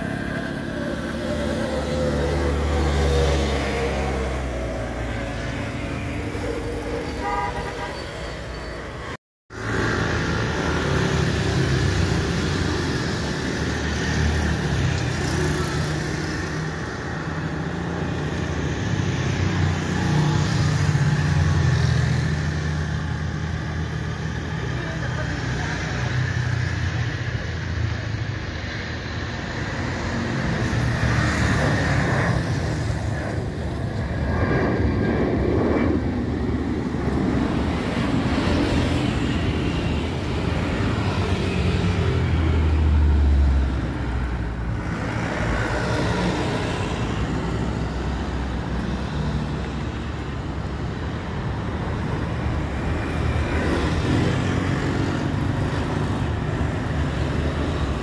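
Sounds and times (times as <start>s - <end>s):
jet engines at takeoff: 0.0s - 7.3s, 8.8s - 58.0s.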